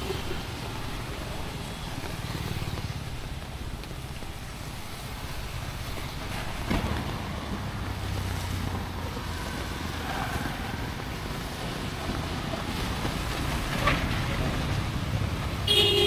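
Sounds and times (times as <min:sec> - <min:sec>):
rain hissing: 0:00.0 - 0:15.8
traffic rumble: 0:00.0 - 0:16.0.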